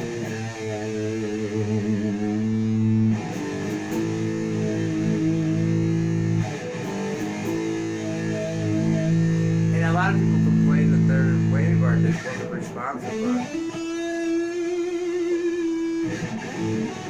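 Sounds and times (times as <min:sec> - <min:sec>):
electric guitar chords with distortion: 0:00.0 - 0:17.0.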